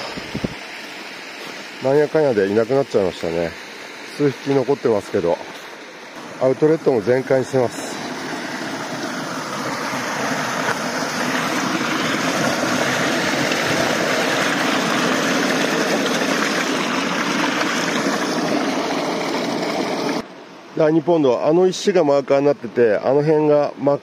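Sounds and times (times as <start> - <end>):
water rushing from outlet: 0.0 - 20.2.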